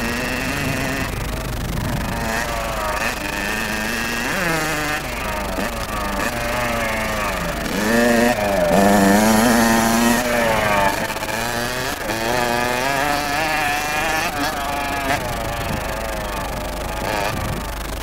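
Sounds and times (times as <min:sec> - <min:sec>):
two-stroke motorbike engine revving: 0:00.0 - 0:18.0.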